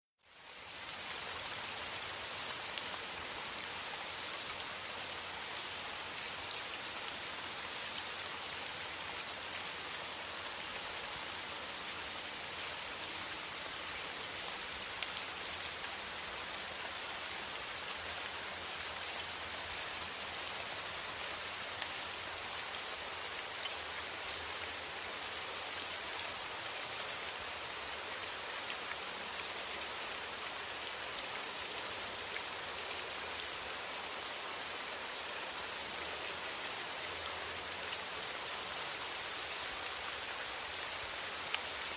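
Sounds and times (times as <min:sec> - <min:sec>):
faint rain patter: 0:00.1 - 0:41.9
steady rain hiss: 0:00.2 - 0:41.9.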